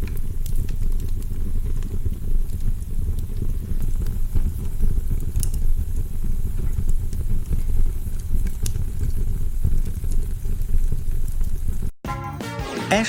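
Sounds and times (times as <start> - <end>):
log fire crackling: 0.0 - 13.0.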